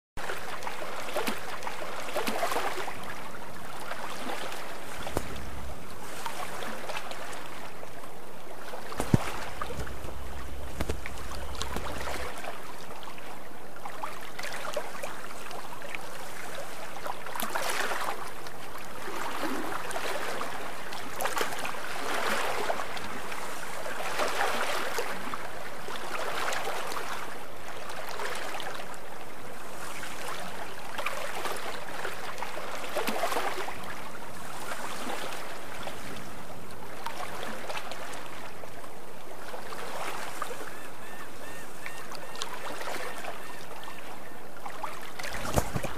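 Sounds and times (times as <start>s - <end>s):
water rushing along boat hull: 0.2s - 45.9s.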